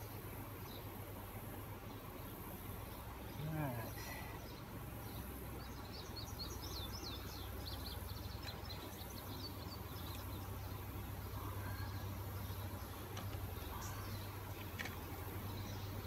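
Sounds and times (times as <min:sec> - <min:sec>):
low outdoor rumble: 0:00.0 - 0:16.0
small bird chirping: 0:01.9 - 0:16.0.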